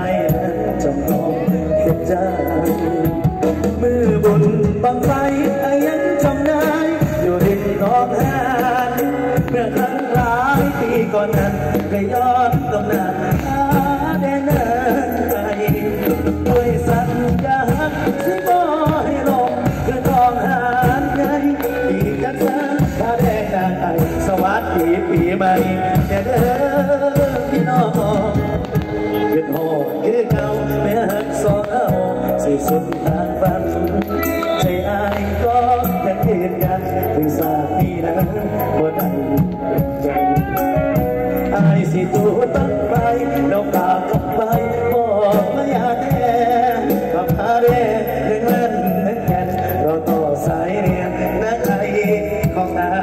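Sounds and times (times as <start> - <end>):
band music through loudspeakers: 0.0 - 53.0
steady drum beat: 0.0 - 53.0.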